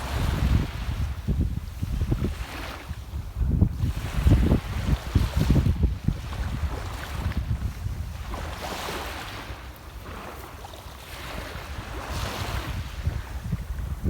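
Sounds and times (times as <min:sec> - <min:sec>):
sea waves washing onto shore: 0:00.0 - 0:14.0
wind rumbling on microphone: 0:00.0 - 0:14.0.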